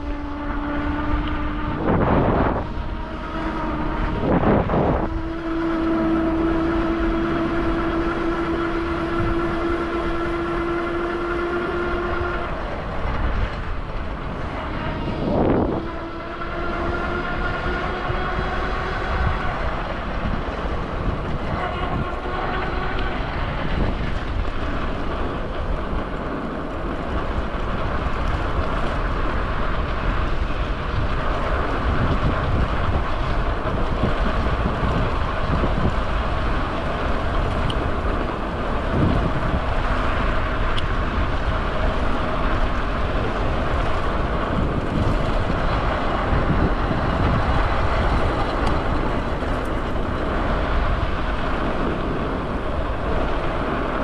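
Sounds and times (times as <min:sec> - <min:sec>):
moving vehicle rumble: 0:00.0 - 0:54.0.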